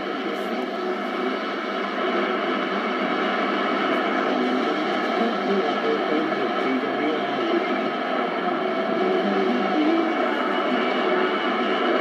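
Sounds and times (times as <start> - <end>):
faint radio broadcast: 0.0 - 12.0
radio static hiss: 0.0 - 12.0.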